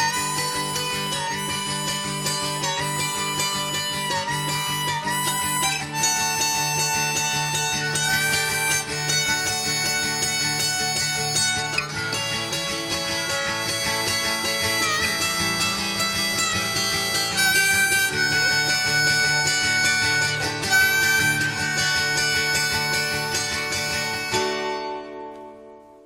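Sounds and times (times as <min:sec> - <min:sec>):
lead guitar bending notes: 0:00.0 - 0:25.7.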